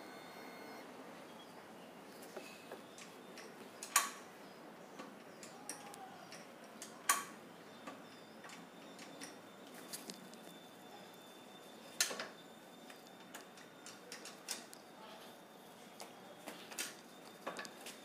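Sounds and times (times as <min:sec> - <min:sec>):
faint background hiss: 0:00.0 - 0:18.0.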